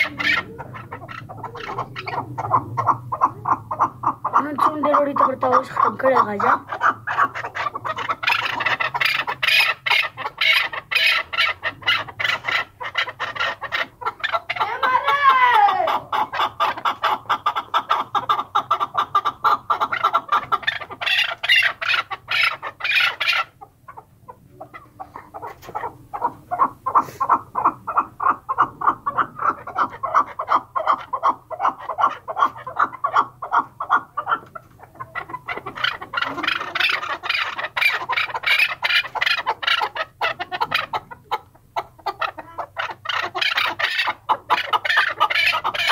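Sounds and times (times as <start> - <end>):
partridge clucking: 0.0 - 45.9.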